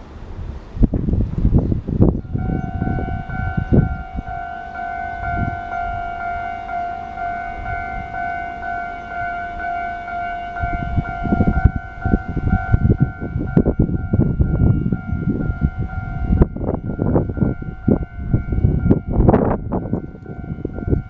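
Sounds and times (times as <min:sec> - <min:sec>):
wind buffeting microphone: 0:00.0 - 0:21.0
level crossing alarm dinging: 0:02.2 - 0:21.0.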